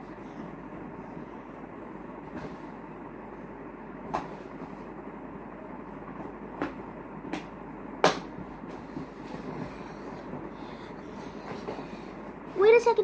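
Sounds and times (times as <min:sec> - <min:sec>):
background rumble and hiss: 0:00.0 - 0:13.0.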